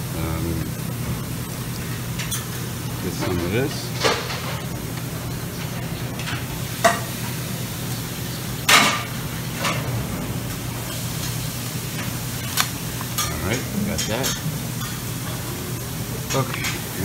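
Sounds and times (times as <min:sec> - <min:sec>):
room hiss and hum: 0:00.0 - 0:17.0.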